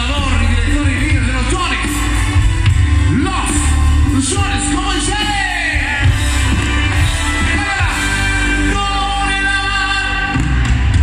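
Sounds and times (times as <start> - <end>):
live band over pa system: 0.0 - 11.0.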